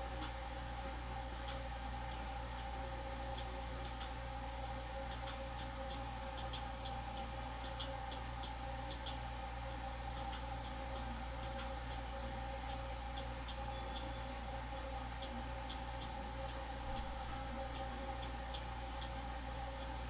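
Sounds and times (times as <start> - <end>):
air conditioner humming: 0.0 - 20.0
tinny hi-hat ticking from earbuds: 0.0 - 20.0.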